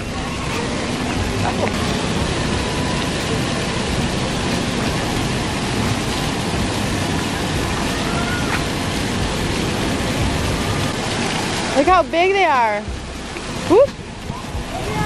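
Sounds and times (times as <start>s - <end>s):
fountain water splashing on stone: 0.0s - 15.0s.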